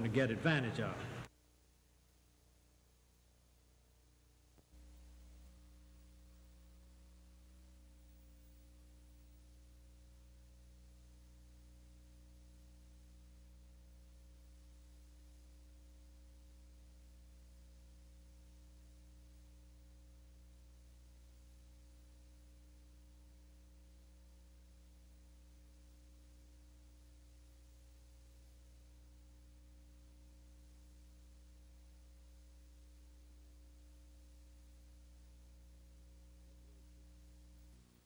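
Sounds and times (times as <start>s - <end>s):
faint electrical hum: 0.0s - 38.0s.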